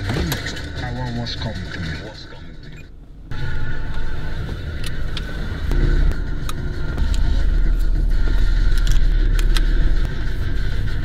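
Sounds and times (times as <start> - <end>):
car engine sound effects over speakers: 0.0 - 11.0.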